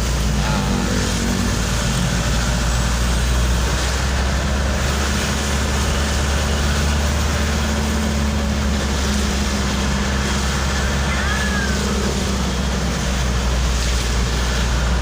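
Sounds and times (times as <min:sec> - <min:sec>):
tyres hissing on wet road: 0:00.0 - 0:15.0
vehicle engine and road rumble: 0:00.0 - 0:15.0.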